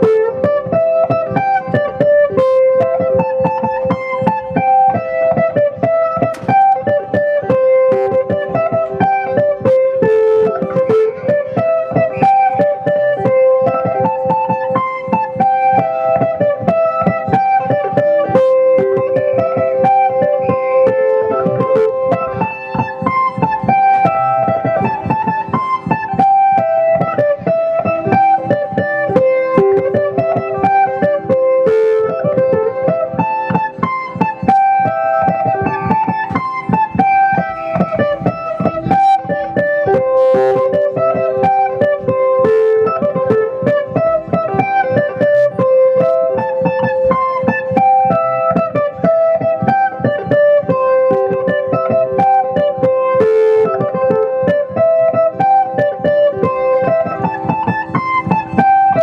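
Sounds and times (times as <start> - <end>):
folk dance music with strummed strings: 0.0 - 59.0.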